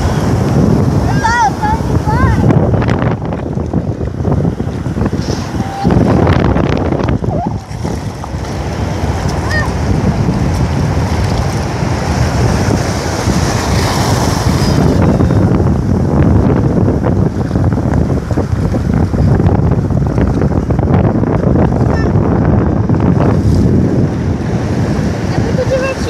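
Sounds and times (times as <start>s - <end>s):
surf washing over beach: 0.0s - 26.0s
wind buffeting microphone: 0.0s - 26.0s.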